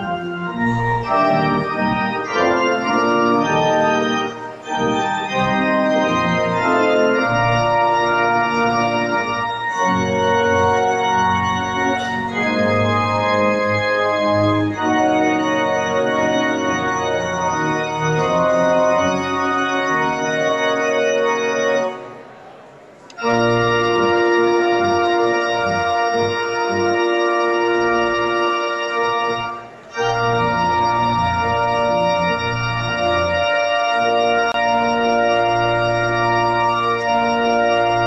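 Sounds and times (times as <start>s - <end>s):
pipe organ chords: 0.0s - 38.0s.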